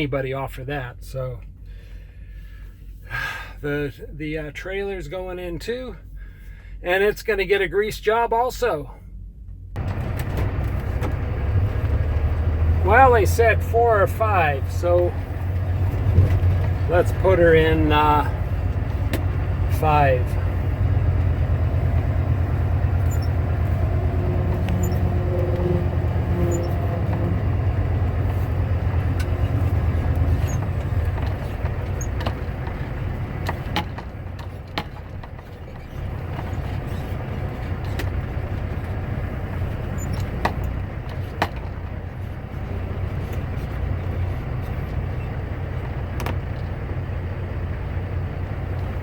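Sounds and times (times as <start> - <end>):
truck diesel engine idling: 9.8 - 49.0.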